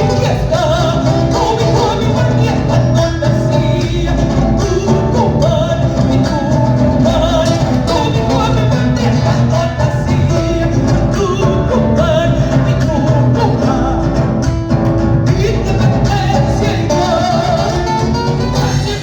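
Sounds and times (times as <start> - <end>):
woman singing: 0.0 - 14.3, 15.3 - 19.0
latin music over pa system: 0.0 - 19.0
steady bass line: 0.0 - 19.0.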